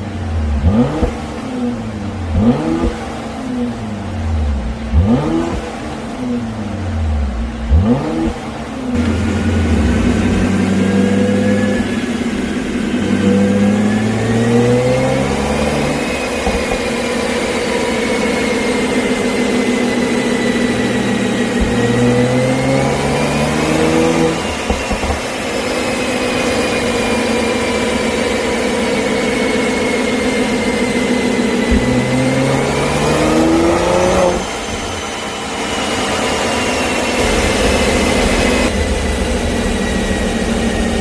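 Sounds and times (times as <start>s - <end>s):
car engine revving: 0.0s - 41.0s
exhaust cracking: 4.0s - 41.0s.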